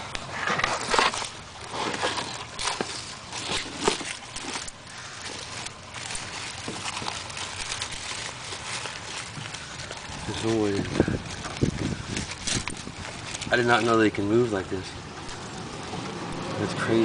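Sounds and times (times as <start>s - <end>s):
dry leaves crackling and rustling: 0.0s - 17.0s.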